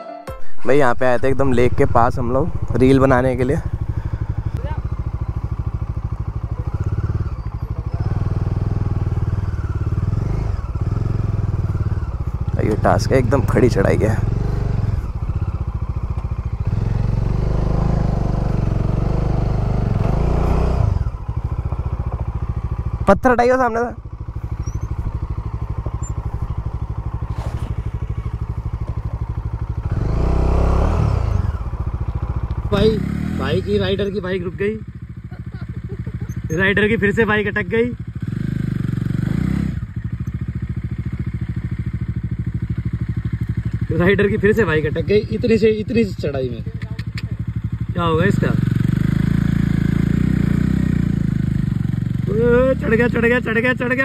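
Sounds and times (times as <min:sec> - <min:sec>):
motorcycle engine at low revs: 0:00.7 - 0:54.0.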